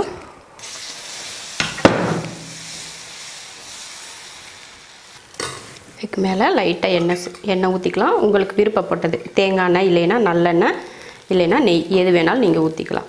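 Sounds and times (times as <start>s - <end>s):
batter sizzling on a griddle: 0.6s - 6.8s, 7.6s - 13.0s.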